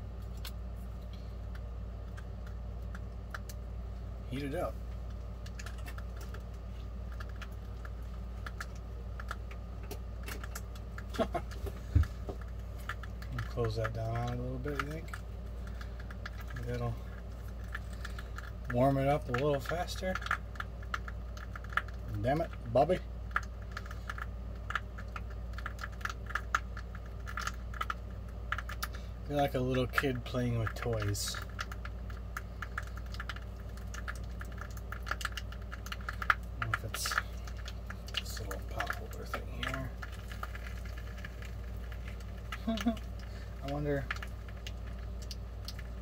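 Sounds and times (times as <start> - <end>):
low steady hum: 0.0 - 46.0
foil tray ticking and crackling: 0.2 - 46.0.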